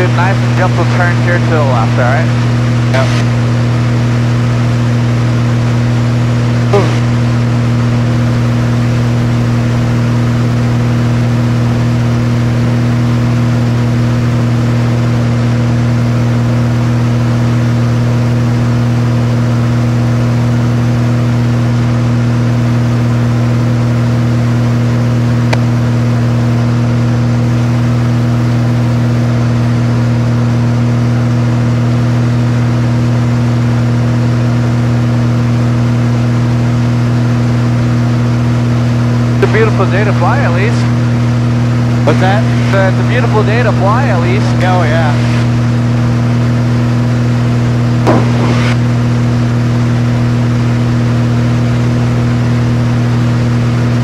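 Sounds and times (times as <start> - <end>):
propeller plane engine humming: 0.0 - 54.0.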